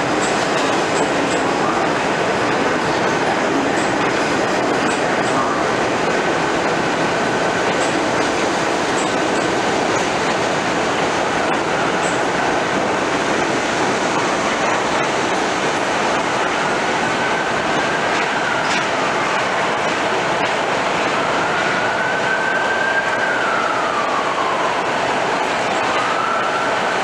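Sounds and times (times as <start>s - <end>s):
subway train rumbling on rails: 0.0s - 27.0s.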